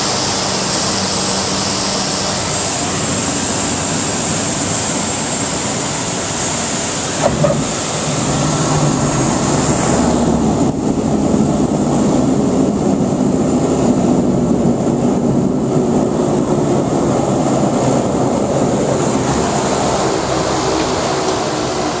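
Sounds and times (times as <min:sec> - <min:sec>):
turboprop engine running: 0:00.0 - 0:22.0.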